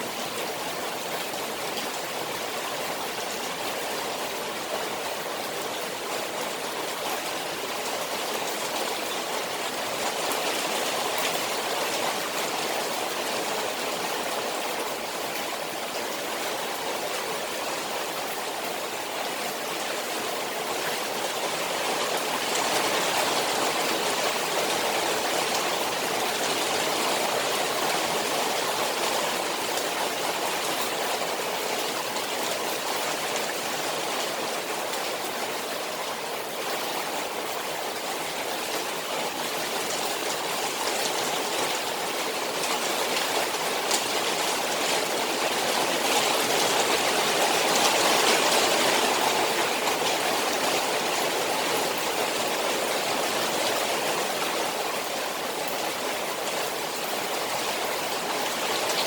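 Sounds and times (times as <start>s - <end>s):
rain falling on pond water: 0.0s - 59.0s.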